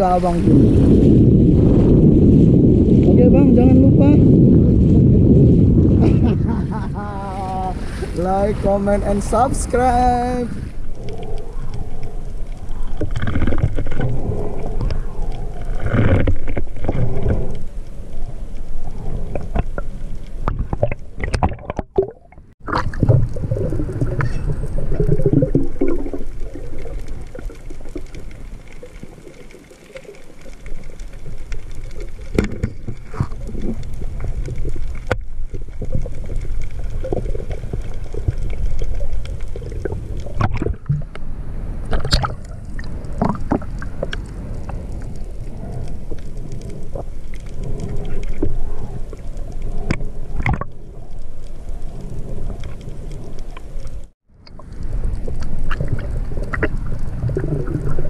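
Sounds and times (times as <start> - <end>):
sea water sloshing and splashing: 4.7 - 58.0.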